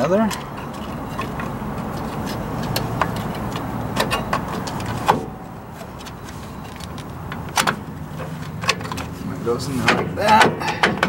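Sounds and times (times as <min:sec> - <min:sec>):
metallic clicks of brake hardware: 0:00.0 - 0:09.1.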